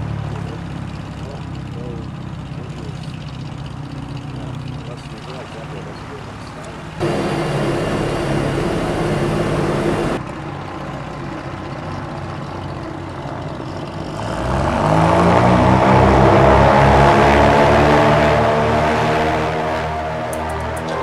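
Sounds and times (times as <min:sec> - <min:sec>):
propeller engines droning: 0:00.0 - 0:21.0.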